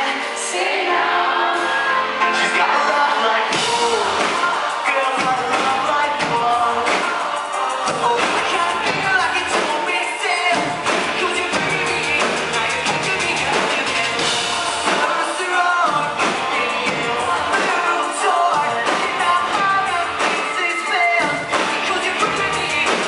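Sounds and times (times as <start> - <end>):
drums: 0.0 - 23.0
singer singing into a microphone: 0.0 - 23.0.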